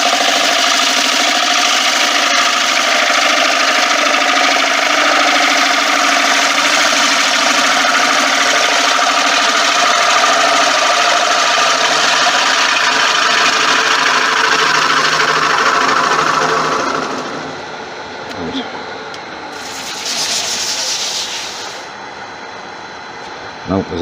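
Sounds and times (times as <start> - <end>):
lathe tool cutting wood hissing: 0.0 - 17.6, 19.6 - 21.9
wood lathe humming: 0.0 - 17.8, 19.6 - 21.9.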